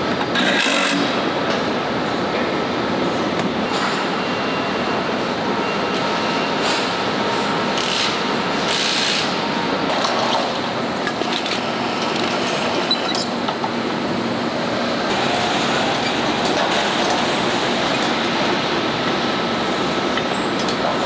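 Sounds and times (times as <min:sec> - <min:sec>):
factory machinery noise: 0:00.0 - 0:21.0.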